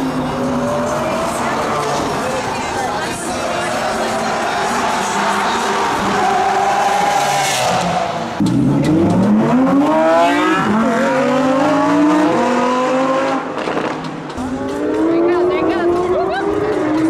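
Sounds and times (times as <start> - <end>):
car engines revving at full throttle: 0.0 - 17.0.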